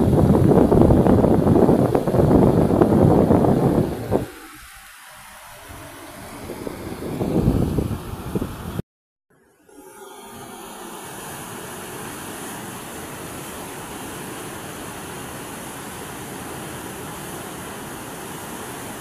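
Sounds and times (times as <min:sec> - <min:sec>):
steady rushing noise: 0:00.0 - 0:08.8, 0:09.7 - 0:19.0.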